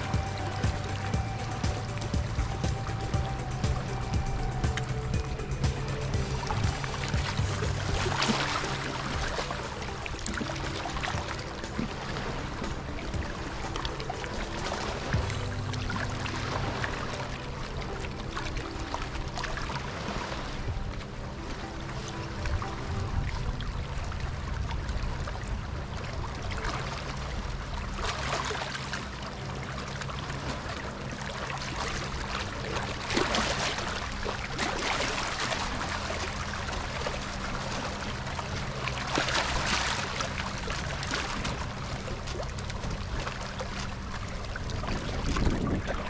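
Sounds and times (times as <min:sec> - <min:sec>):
low steady hum: 0:00.0 - 0:46.0
rushing water: 0:00.0 - 0:46.0.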